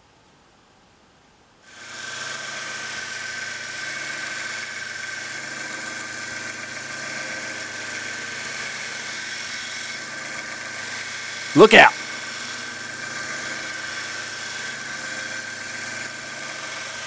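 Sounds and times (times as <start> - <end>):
grinder motor hum: 1.7 - 17.0.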